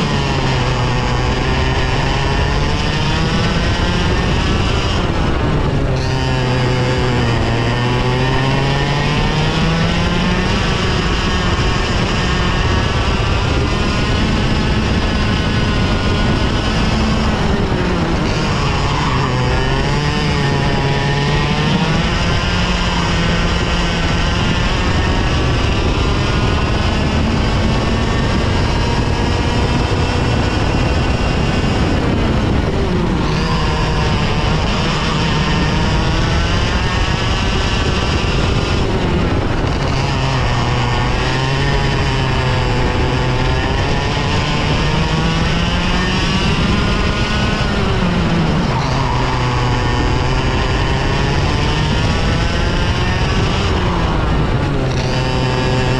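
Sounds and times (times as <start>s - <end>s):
two-stroke kart engine racing: 0.0s - 55.9s.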